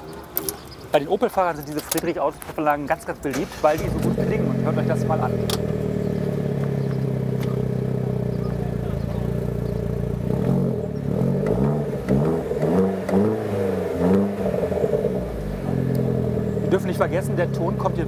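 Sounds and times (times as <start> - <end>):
car engine idling and revving: 3.1 - 18.0.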